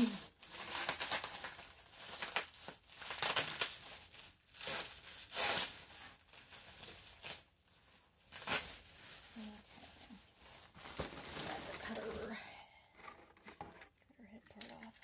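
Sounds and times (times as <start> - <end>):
plastic wrap rustling and crinkling: 0.0 - 15.0.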